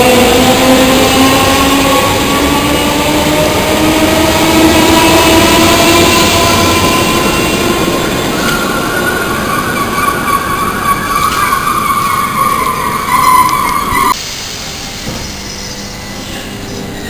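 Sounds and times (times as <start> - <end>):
train wheels rushing on rail: 0.0 - 15.8
high whine rising in pitch: 0.0 - 16.3.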